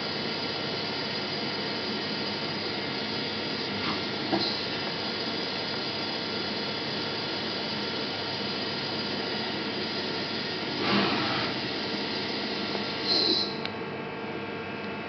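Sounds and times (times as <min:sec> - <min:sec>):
lathe machine hum and whine: 0:00.0 - 0:15.0.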